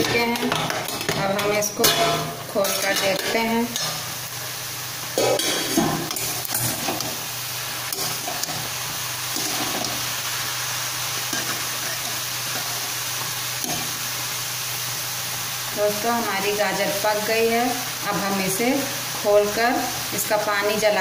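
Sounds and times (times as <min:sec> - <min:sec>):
carrots sizzling in a pan: 0:00.0 - 0:21.0.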